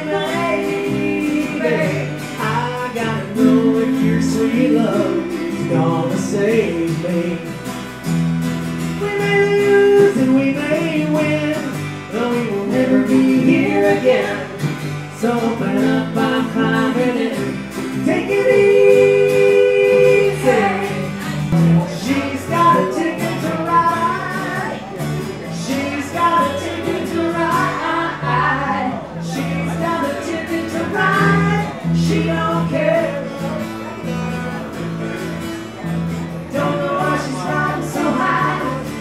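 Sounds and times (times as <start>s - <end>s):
person singing: 0.0s - 7.6s, 8.9s - 34.8s, 36.3s - 39.0s
acoustic country rock band: 0.0s - 39.0s
acoustic guitars: 0.0s - 39.0s
electric bass: 0.0s - 39.0s.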